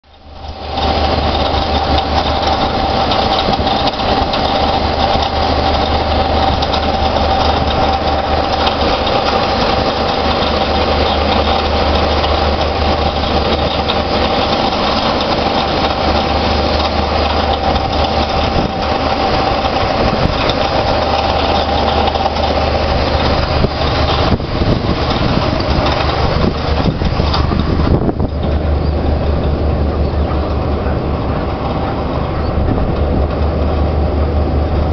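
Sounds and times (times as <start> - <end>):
low hum: 0.0 - 34.9
mid-pitched machine whine: 0.1 - 34.9.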